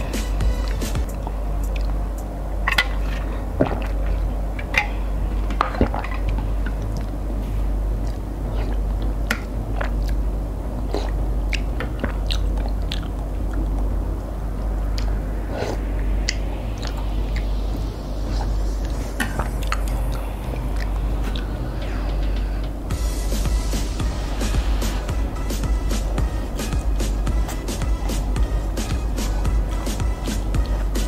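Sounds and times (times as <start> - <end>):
low hum: 0.0 - 31.0
person chewing and slurping noodles: 2.6 - 7.2, 7.9 - 13.9, 14.9 - 31.0.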